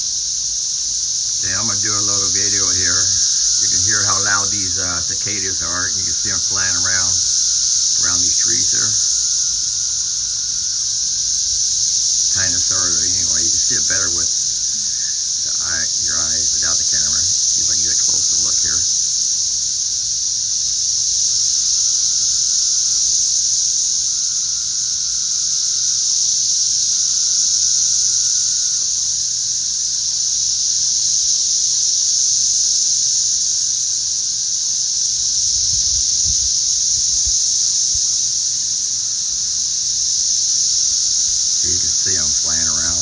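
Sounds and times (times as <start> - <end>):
cicadas droning: 0.0 - 43.0.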